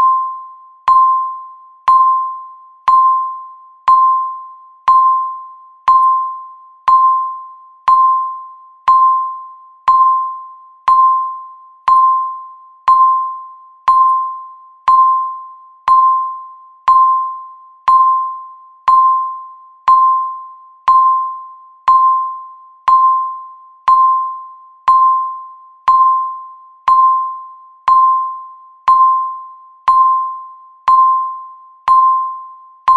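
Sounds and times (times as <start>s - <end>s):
countdown timer beep: 0.0s - 32.9s.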